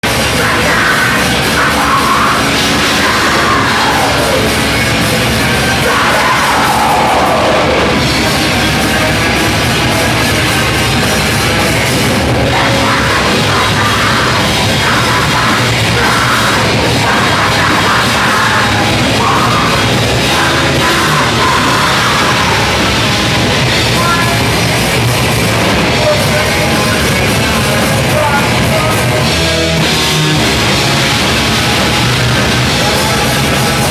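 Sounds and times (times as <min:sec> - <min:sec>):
loud heavy rock music: 0:00.0 - 0:33.9.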